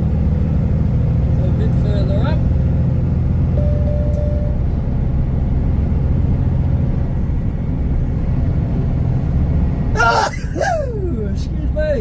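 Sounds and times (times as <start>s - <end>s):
diesel truck engine droning: 0.0s - 12.0s
road noise: 0.0s - 12.0s.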